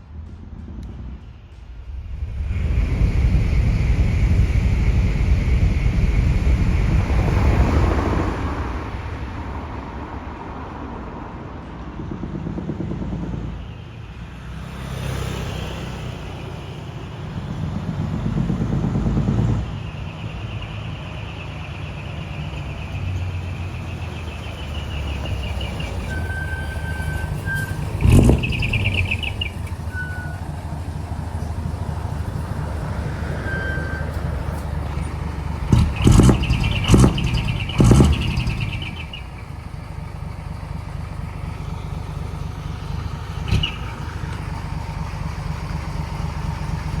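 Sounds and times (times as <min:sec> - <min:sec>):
diesel truck engine revving: 0:00.0 - 0:47.0.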